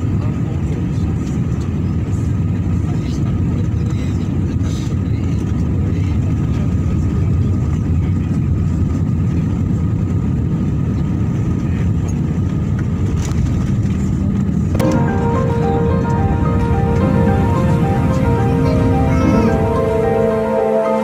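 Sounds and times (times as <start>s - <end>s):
airliner cabin rumble: 0.0s - 20.6s.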